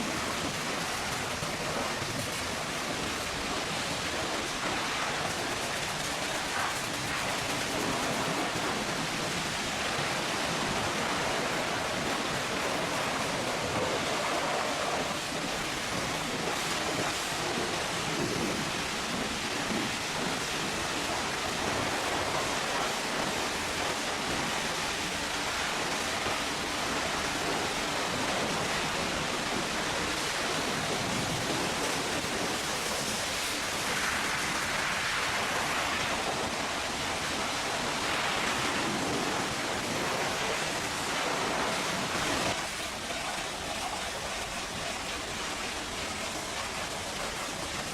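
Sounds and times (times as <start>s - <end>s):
high-pressure water spray hissing: 0.0s - 47.9s.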